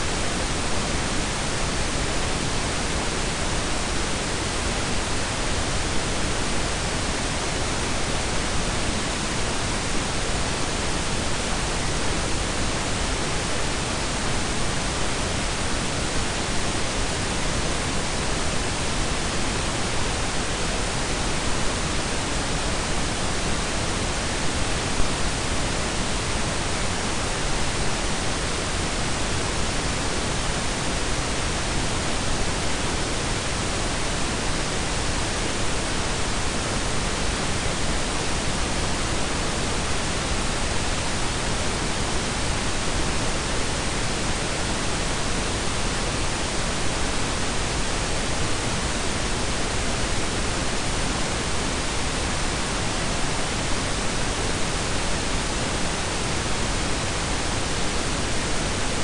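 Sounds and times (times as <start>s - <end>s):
steady noise hiss with rumble: 0.0s - 59.0s.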